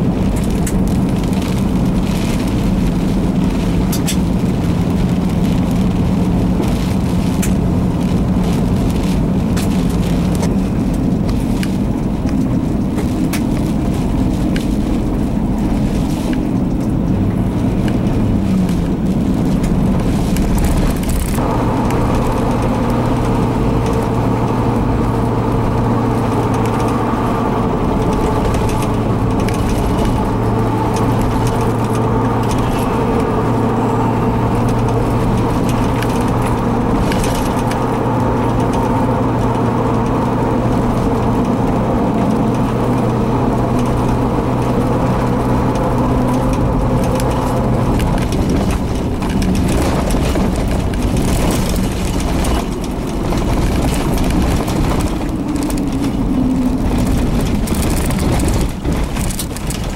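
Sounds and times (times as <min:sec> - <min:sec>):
constant rush of noise: 0:00.0 - 0:59.9
vehicle engine idling: 0:00.0 - 0:59.9.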